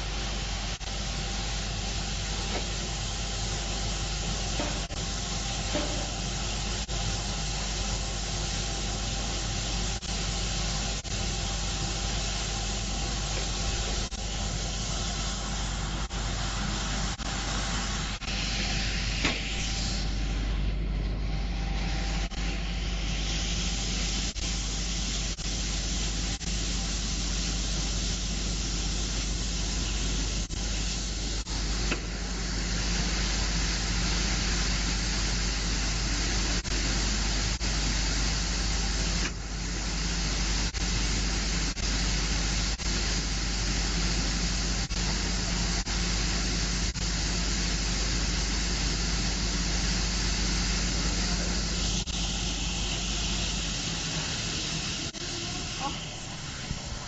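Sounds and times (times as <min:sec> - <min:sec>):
machine humming and hissing: 0:00.0 - 0:57.0.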